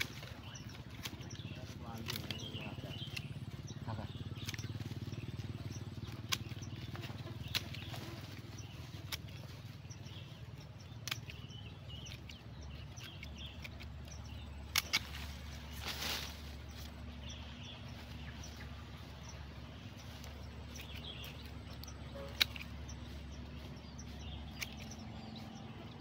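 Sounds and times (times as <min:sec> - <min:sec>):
pruning shears snipping: 0:00.0 - 0:26.0
steady low hum: 0:00.0 - 0:26.0.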